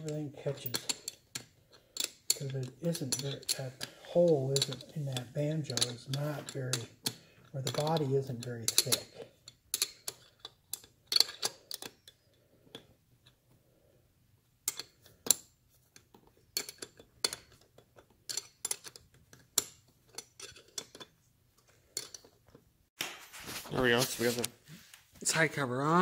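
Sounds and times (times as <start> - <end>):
small metal clicks and taps: 0.0 - 13.4, 14.6 - 22.6.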